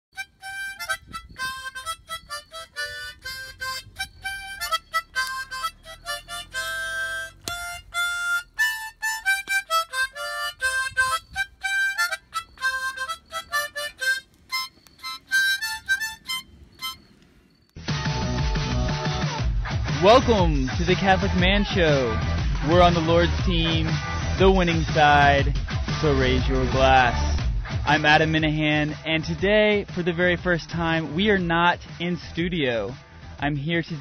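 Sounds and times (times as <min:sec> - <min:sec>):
harmonica notes and chords: 0:00.1 - 0:28.2.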